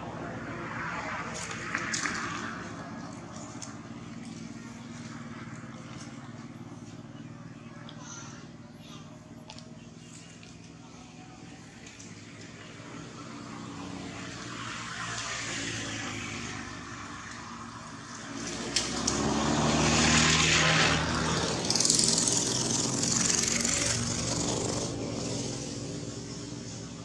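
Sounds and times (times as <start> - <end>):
vehicle passing: 0.0 - 27.0.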